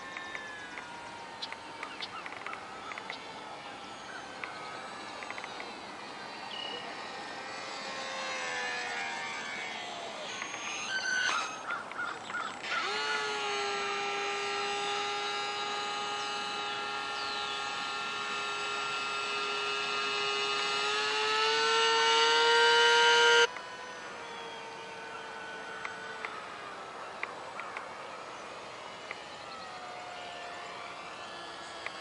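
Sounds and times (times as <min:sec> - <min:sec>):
small electric motor whine: 0:00.0 - 0:32.0.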